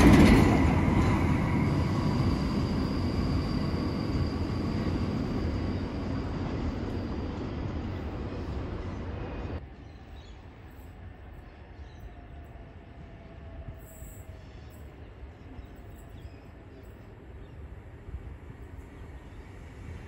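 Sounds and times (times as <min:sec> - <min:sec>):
freight train wheels rumbling on rails: 0:00.0 - 0:20.0.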